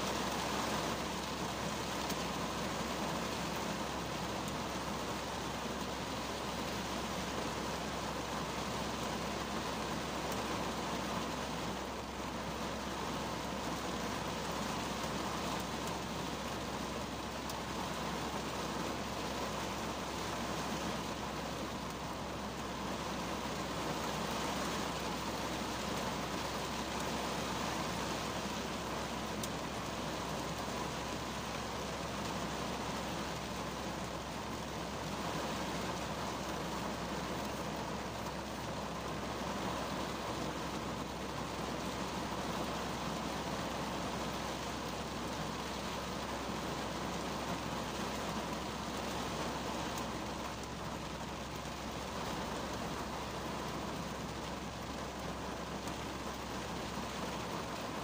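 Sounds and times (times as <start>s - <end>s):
rain on car roof: 0.0s - 58.0s.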